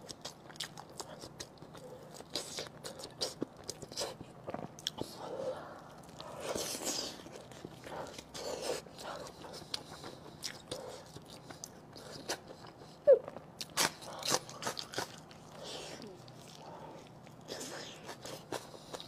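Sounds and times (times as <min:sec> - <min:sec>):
wet chewing and lip smacks: 0:00.0 - 0:05.2, 0:05.8 - 0:19.0.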